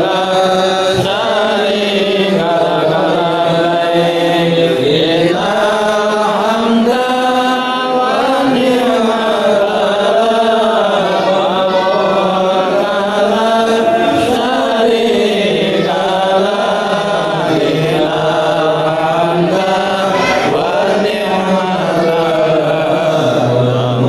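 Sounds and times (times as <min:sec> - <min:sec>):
voices chanting a devotional song: 0:00.0 - 0:24.0.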